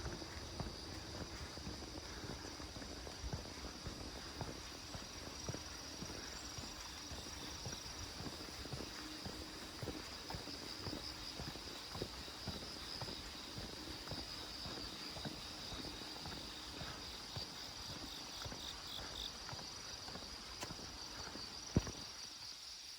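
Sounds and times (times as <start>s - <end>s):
footsteps on paved path: 0.0s - 22.5s
insects chorus: 0.0s - 22.9s.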